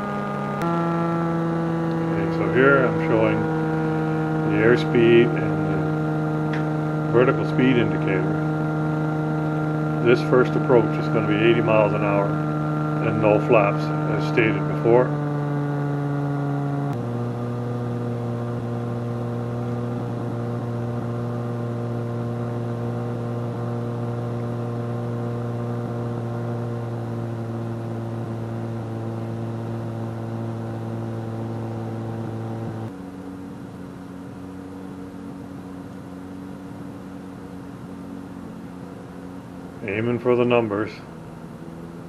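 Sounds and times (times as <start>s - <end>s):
light aircraft engine and propeller drone: 0.0s - 42.0s.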